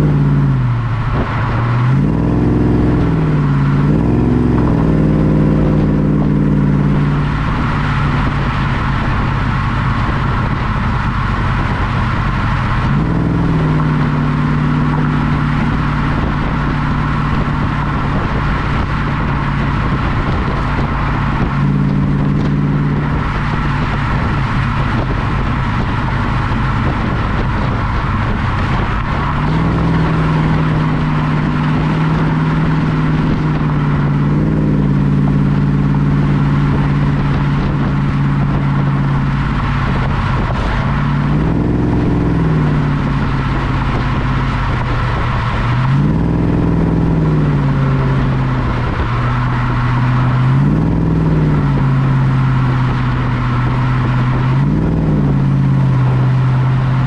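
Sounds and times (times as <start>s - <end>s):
car engine exhaust drone: 0.0s - 57.0s
wind noise: 0.0s - 57.0s.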